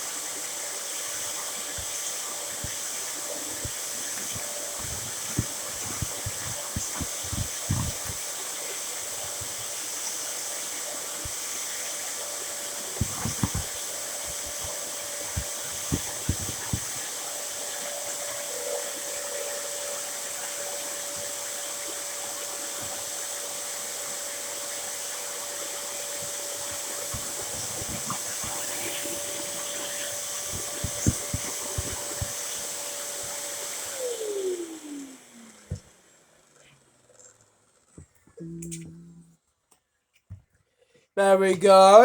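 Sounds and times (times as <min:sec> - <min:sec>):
vacuum cleaner running: 0:00.0 - 0:38.4.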